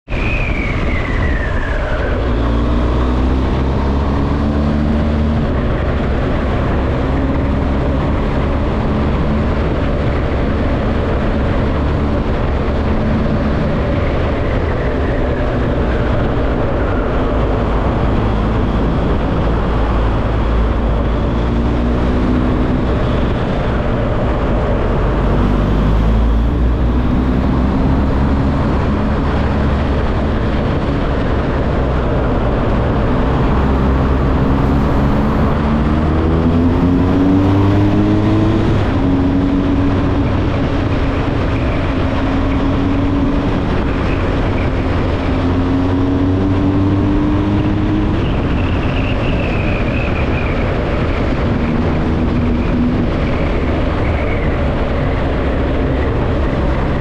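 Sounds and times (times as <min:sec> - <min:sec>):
traffic: 0:00.0 - 0:57.0
wind rush on microphone: 0:00.0 - 0:57.0
motorcycle engine: 0:00.1 - 0:57.0.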